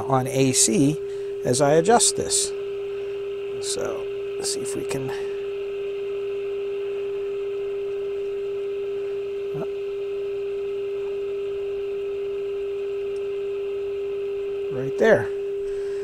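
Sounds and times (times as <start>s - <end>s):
radio test tone: 0.0s - 16.0s.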